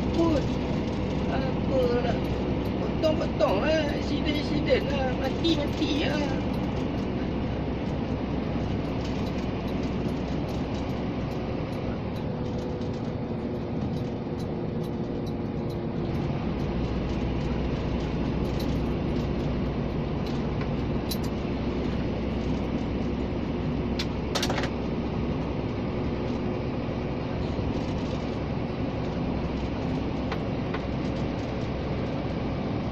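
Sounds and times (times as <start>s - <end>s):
road noise: 0.0s - 32.9s
truck diesel engine running: 0.0s - 32.9s.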